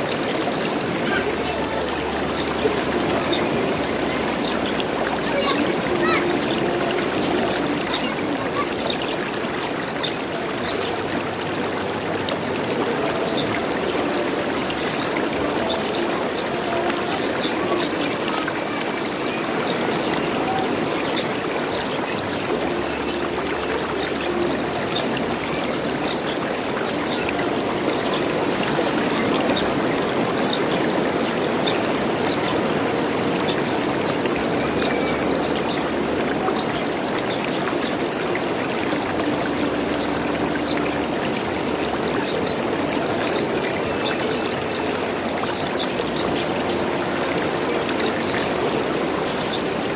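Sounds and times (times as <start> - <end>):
stream water gurgling: 0.0 - 49.9.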